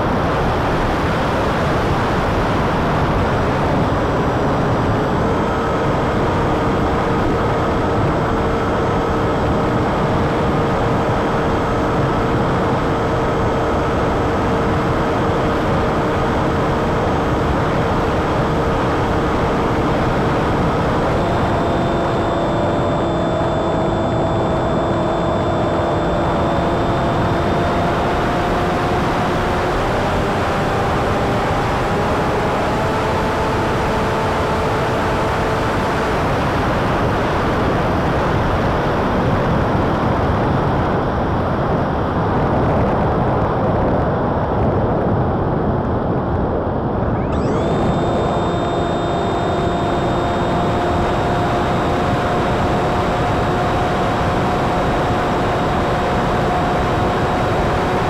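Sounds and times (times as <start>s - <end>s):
electric motor whine: 0.4s - 38.9s, 47.0s - 58.0s.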